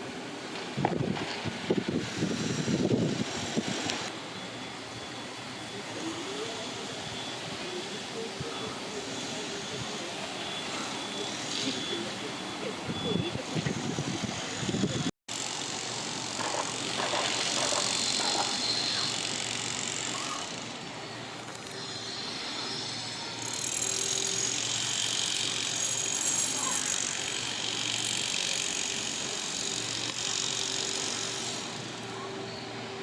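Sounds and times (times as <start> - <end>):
outdoor background rush: 0.0 - 33.0
high continuous trilling: 1.6 - 33.0.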